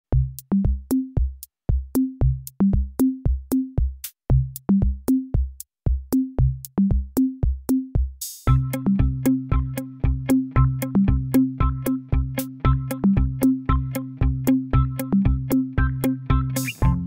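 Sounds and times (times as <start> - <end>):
electronic drum machine beat: 0.1 - 17.0.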